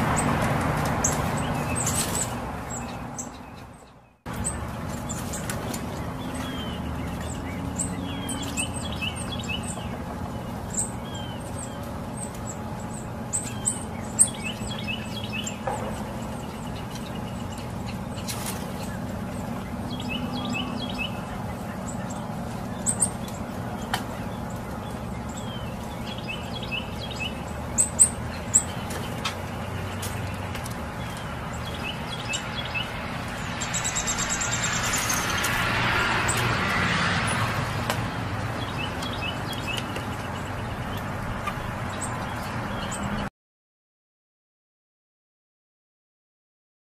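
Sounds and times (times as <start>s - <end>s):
small birds chirping: 0.0s - 43.3s.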